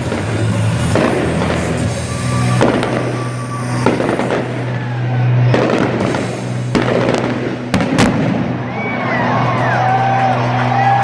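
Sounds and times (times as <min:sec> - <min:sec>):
fireworks banging and crackling: 0:00.0 - 0:09.4
music playing: 0:00.0 - 0:11.0.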